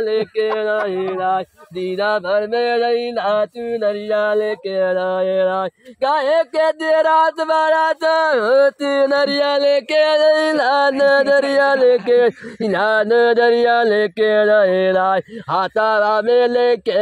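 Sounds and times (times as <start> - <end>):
man singing loudly: 0.0 - 17.0.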